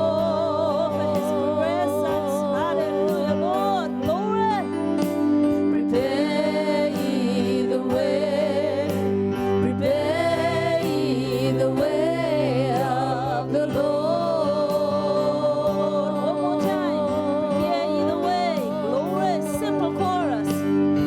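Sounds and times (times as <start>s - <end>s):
person singing with vibrato: 0.0s - 21.0s
sustained instrumental chords: 0.0s - 21.0s.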